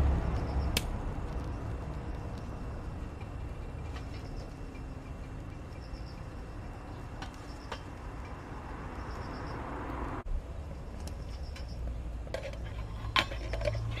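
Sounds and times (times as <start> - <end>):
fire crackling sharply: 0.0 - 12.2
steady low rumble: 0.0 - 13.2
crickets chirping: 0.0 - 14.0.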